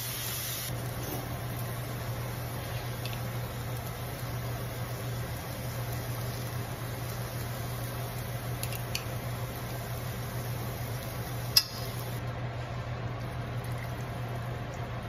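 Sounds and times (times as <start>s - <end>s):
food sizzling in saucepan: 0.0s - 12.2s.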